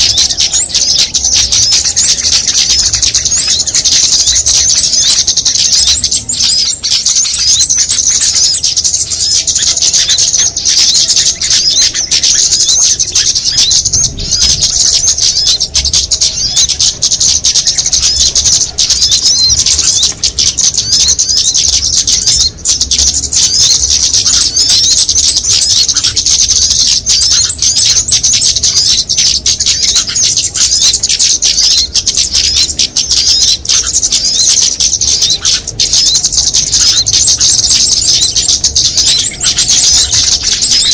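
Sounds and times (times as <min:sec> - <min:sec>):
songbirds chirping and twittering: 0:00.0 - 0:40.9.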